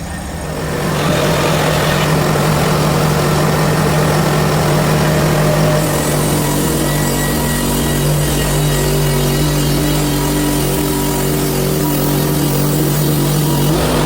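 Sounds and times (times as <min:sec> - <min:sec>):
band saw cutting log: 0:00.0 - 0:14.0
sawmill engine running: 0:00.0 - 0:14.0.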